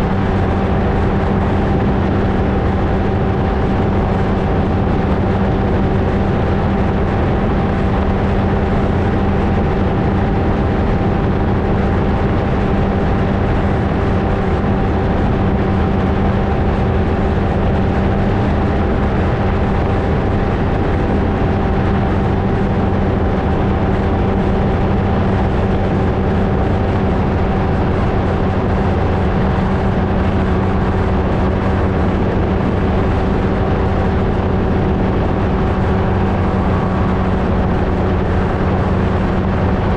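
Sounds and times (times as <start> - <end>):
rushing noise: 0.0 - 39.9
ultralight aircraft engine droning: 0.0 - 39.9.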